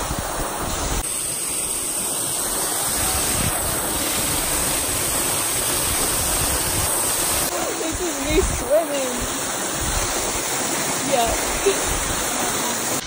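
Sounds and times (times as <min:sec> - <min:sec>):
waterfall pouring into pool: 0:00.0 - 0:13.0.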